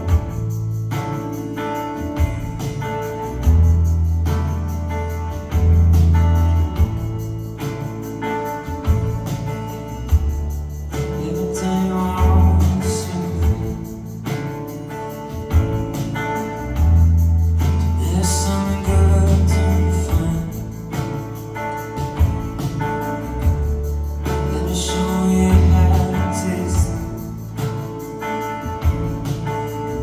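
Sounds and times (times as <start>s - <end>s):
live band playing: 0.0s - 30.0s
steady drum beat: 0.0s - 30.0s
heavy bass line: 2.2s - 30.0s.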